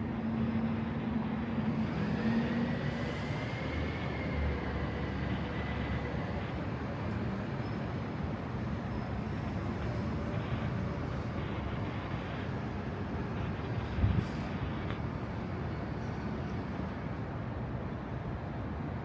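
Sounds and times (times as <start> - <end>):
faint high whine: 0.0 - 16.7.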